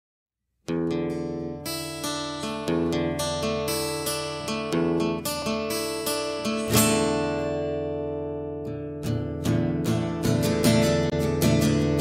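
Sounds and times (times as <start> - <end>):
acoustic guitar strumming chords: 0.7 - 12.0.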